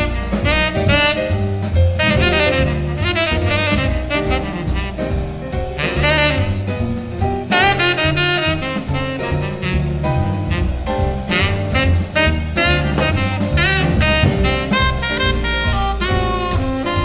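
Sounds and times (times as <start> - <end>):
double bass: 0.0 - 17.0
drum kit: 0.0 - 17.0
saxophone playing: 0.0 - 17.0.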